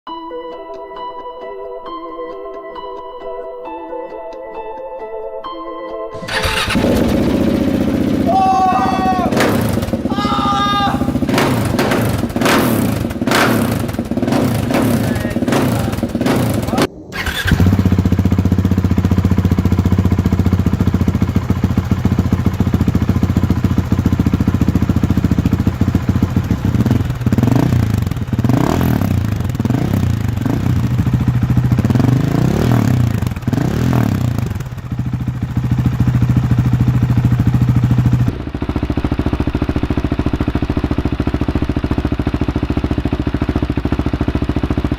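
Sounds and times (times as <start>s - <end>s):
motorcycle engine idling: 6.2s - 44.9s
motorcycle throttle blips: 6.2s - 44.9s.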